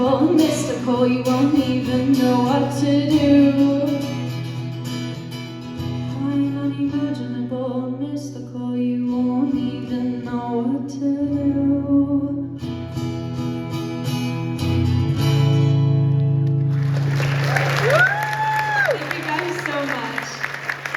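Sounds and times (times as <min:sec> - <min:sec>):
guitar: 0:00.0 - 0:20.9.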